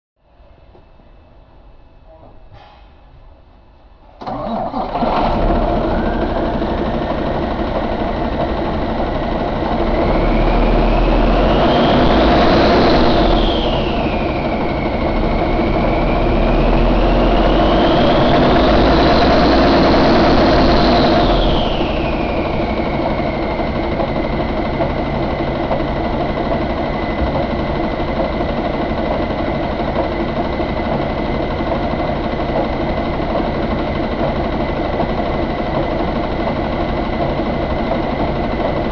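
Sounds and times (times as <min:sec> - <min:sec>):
high engine whine: 0:04.1 - 0:38.9
diesel truck engine revving and idling: 0:04.2 - 0:38.9.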